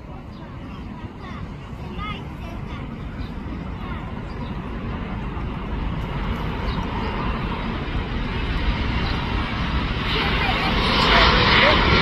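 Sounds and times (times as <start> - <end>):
airliner jet engine noise: 0.0 - 12.0.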